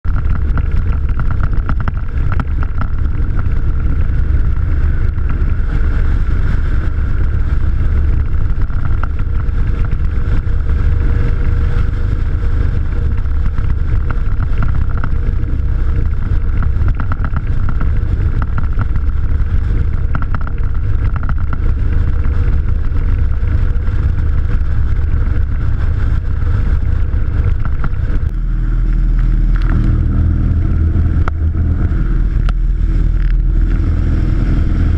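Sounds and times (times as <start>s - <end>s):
low rumble of bike ride: 0.0s - 34.9s
wind on microphone: 0.0s - 34.9s.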